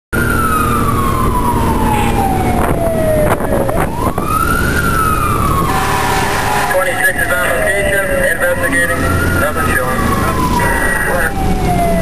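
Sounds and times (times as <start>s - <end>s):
road noise: 0.1s - 12.0s
fire truck siren wailing: 0.2s - 12.0s
truck engine rumble: 0.2s - 12.0s.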